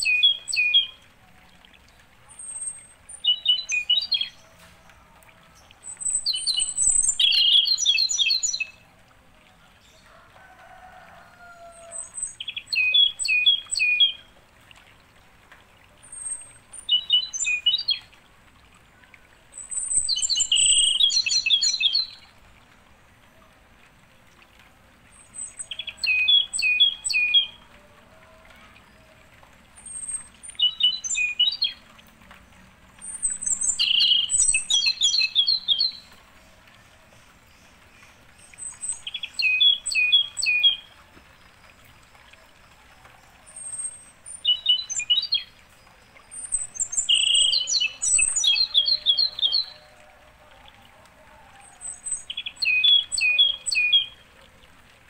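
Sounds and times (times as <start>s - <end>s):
songbird singing: 0.0s - 14.6s, 15.8s - 55.0s.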